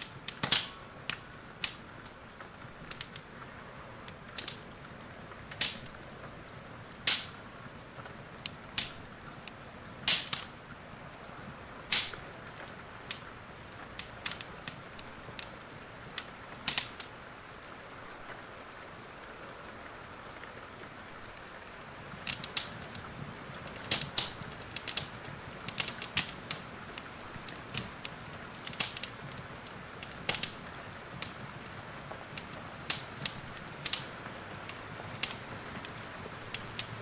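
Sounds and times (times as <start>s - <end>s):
wood fire crackling: 0.0s - 19.5s, 20.3s - 37.0s
rain hissing: 0.0s - 37.0s.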